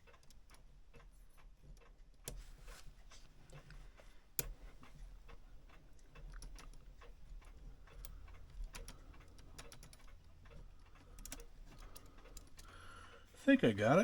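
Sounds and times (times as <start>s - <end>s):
clock parts clicking and tapping: 0.0s - 14.0s.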